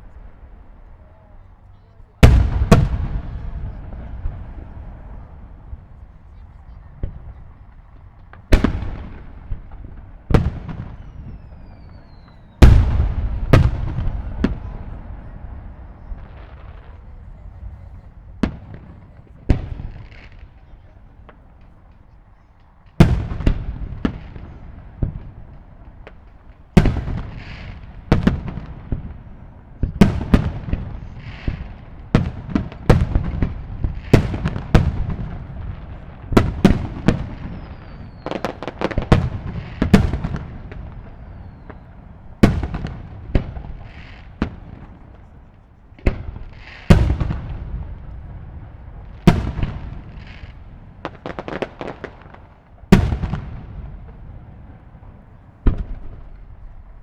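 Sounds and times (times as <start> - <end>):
fireworks booming: 0.0 - 57.0.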